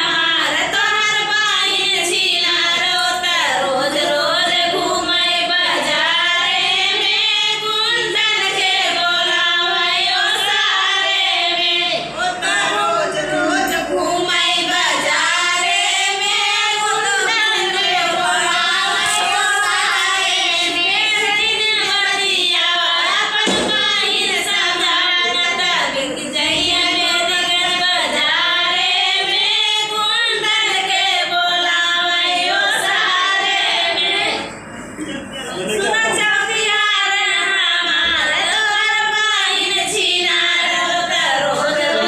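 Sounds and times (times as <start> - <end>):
women singing together: 0.0 - 34.7, 35.6 - 42.0.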